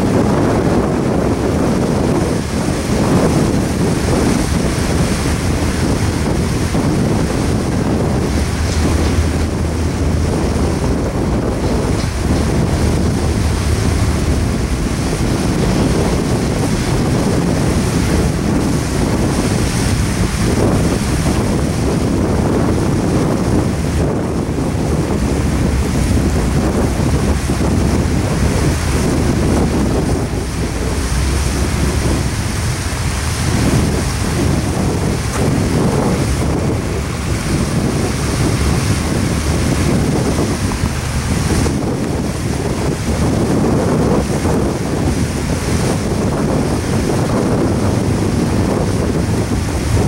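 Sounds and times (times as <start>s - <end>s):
freight train wheels rumbling on rail: 0.0s - 50.0s
wind buffeting microphone: 0.0s - 50.0s.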